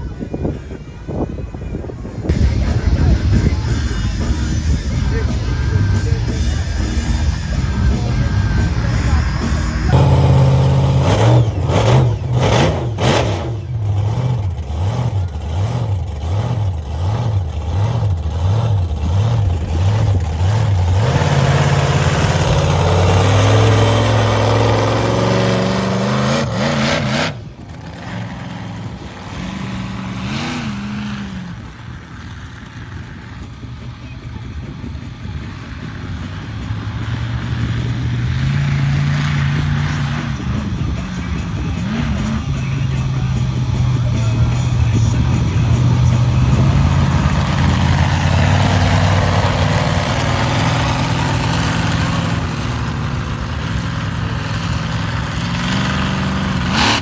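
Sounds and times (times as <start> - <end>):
monster truck engine revving: 3.0 - 33.5, 35.4 - 57.0.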